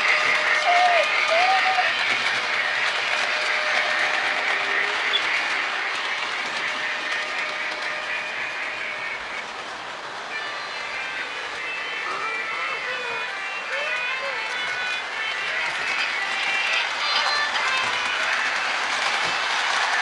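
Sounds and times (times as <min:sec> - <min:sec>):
model train wheels clattering: 0:00.0 - 0:12.4, 0:13.0 - 0:20.0
model train motor running: 0:00.0 - 0:20.0.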